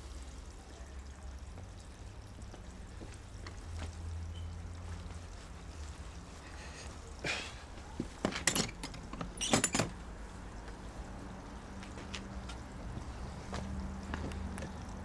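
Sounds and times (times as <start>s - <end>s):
water trickling and pouring: 0.0s - 15.0s.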